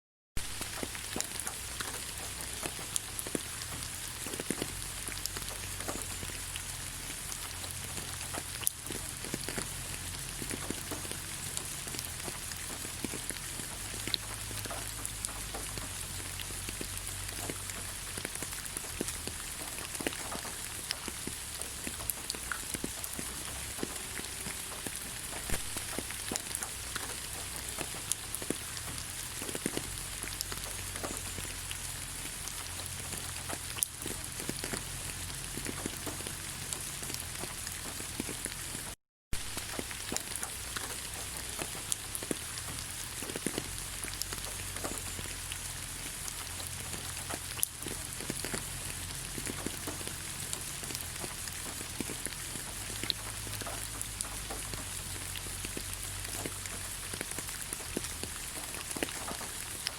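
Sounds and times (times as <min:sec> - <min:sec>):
rain pattering on leaves: 0:00.4 - 0:59.9.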